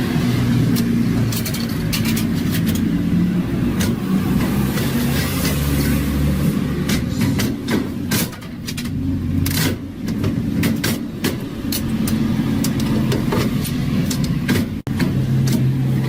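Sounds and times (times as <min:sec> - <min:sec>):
vending machine humming: 0:00.0 - 0:16.0.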